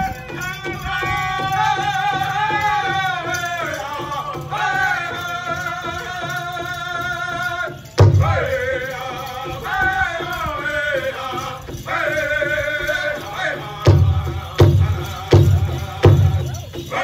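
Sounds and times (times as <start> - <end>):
high voice singing: 0.0 - 17.0
steady drumbeat: 0.0 - 17.0.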